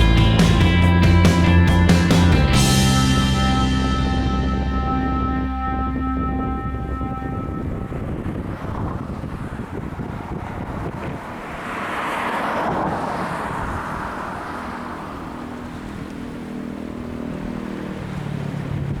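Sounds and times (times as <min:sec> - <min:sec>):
low engine hum: 0:00.0 - 0:11.6, 0:12.4 - 0:19.0
vehicle passing by: 0:00.0 - 0:19.0
wind rumbling on microphone: 0:03.2 - 0:19.0.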